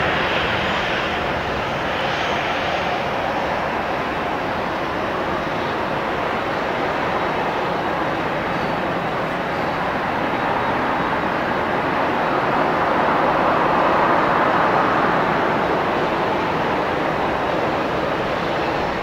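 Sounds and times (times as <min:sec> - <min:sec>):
jet engine roar: 0:00.0 - 0:19.0.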